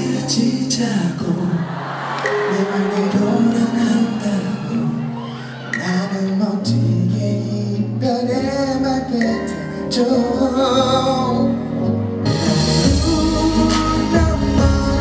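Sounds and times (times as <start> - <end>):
man singing into a microphone: 0.0 - 15.0
band accompaniment: 2.2 - 15.0.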